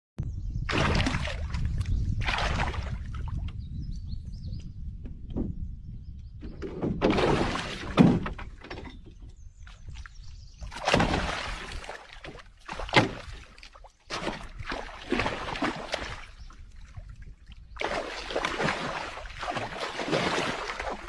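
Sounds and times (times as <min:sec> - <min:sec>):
water splashing around kayak: 0:00.7 - 0:03.6, 0:06.6 - 0:21.0.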